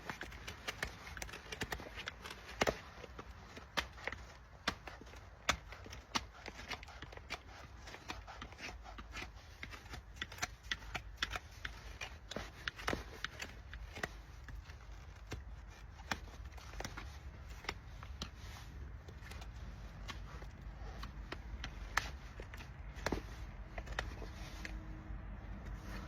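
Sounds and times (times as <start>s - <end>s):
hand tools trimming hoof: 0.0s - 26.0s.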